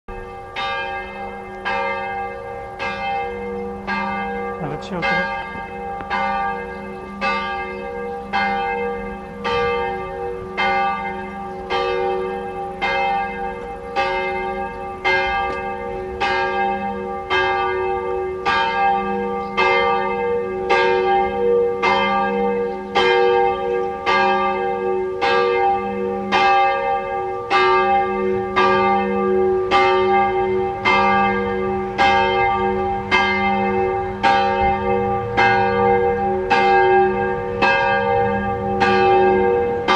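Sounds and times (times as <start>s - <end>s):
church bell tolling: 0.1s - 39.9s.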